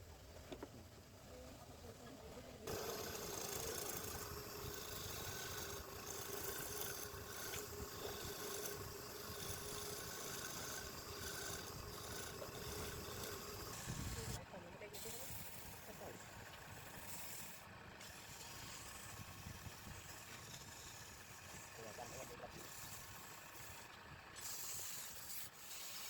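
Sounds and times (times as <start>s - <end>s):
woodturning lathe running: 2.6s - 26.0s.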